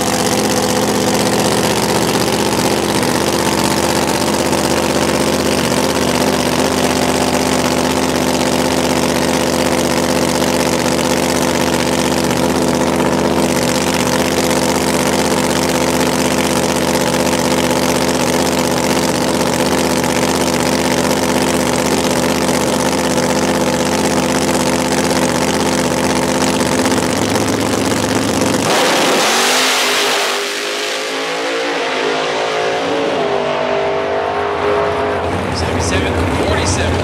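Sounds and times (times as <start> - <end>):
drag car engine accelerating: 0.0 - 37.0.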